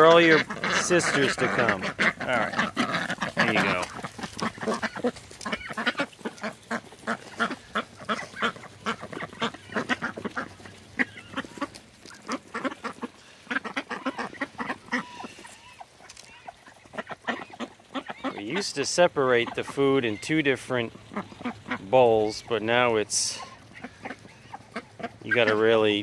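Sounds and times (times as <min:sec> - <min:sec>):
short duck quacks: 0:00.0 - 0:19.8, 0:21.0 - 0:21.9, 0:23.3 - 0:25.6
duck bills clacking in feed: 0:00.0 - 0:26.0.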